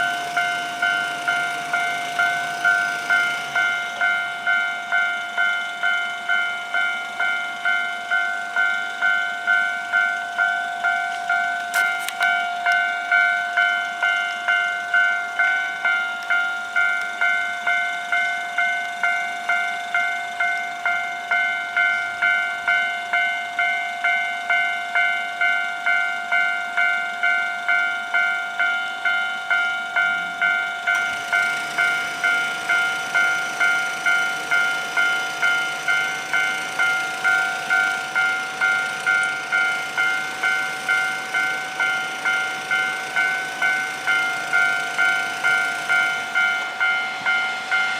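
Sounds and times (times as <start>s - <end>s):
level crossing bell clanging: 0.0s - 47.9s
train running noise: 0.0s - 47.9s.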